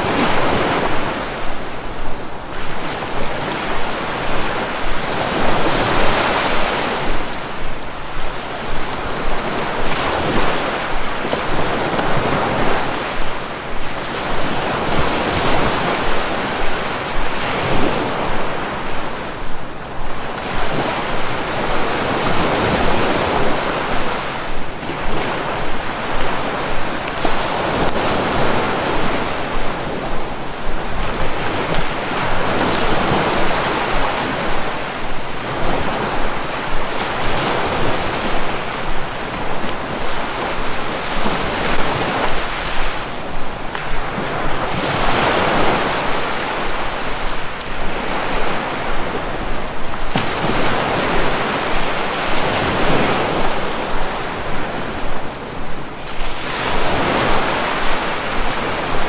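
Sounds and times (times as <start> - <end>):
sea waves breaking: 0.0 - 59.0
wind noise on microphone: 0.0 - 59.0.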